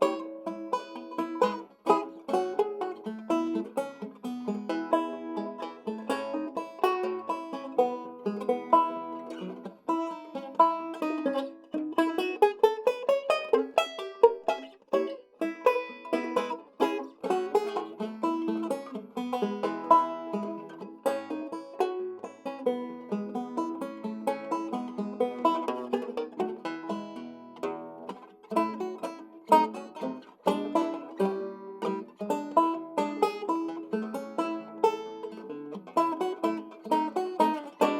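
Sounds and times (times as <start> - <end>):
banjo playing ragtime: 0.0 - 37.9.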